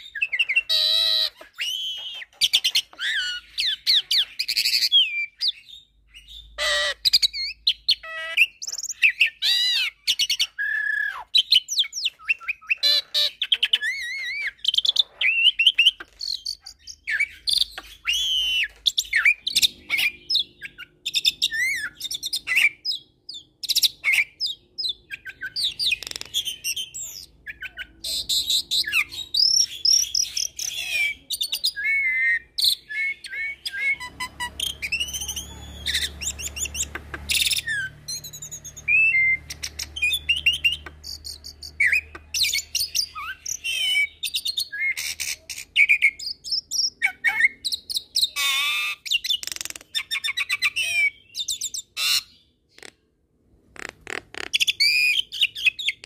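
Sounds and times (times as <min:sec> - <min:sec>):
starling singing: 0:00.0 - 0:52.9, 0:53.8 - 0:56.0.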